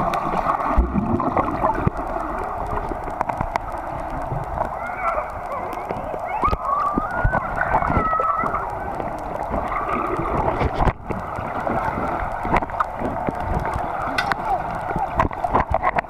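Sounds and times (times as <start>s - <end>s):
muffled water churning underwater: 0.0s - 16.0s.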